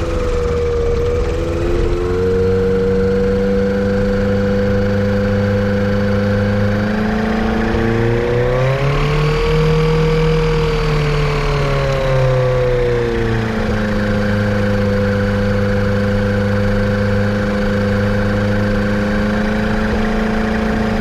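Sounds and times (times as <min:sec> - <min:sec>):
airplane engine running: 0:00.0 - 0:21.0.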